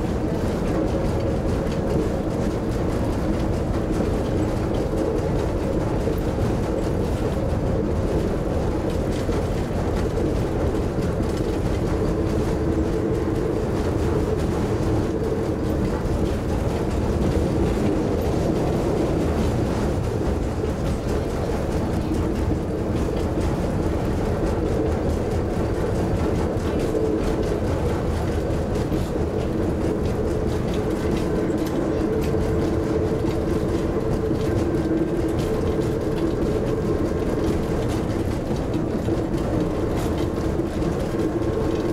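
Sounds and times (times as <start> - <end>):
train wheels running: 0.0 - 41.9.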